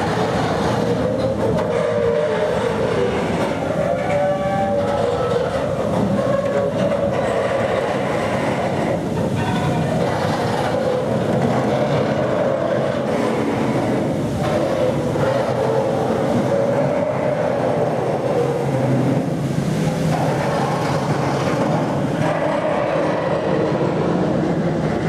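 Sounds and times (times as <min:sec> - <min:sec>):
ship engine hum: 0:00.0 - 0:25.0
water rushing: 0:00.0 - 0:25.0
wind: 0:00.0 - 0:25.0.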